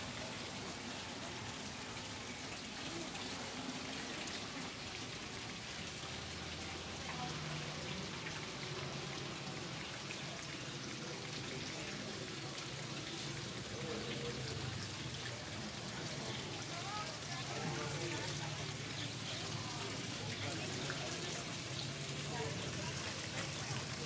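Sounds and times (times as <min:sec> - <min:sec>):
running water splashing: 0:00.0 - 0:24.0.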